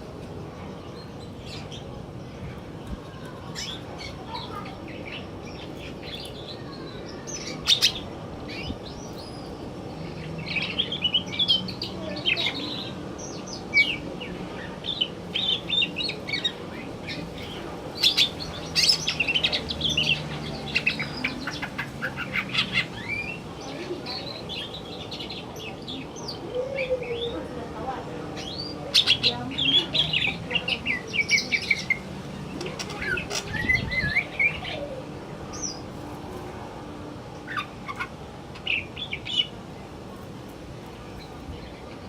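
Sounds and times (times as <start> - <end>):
bird singing chirps and trills: 0.5 - 35.9, 37.4 - 39.9.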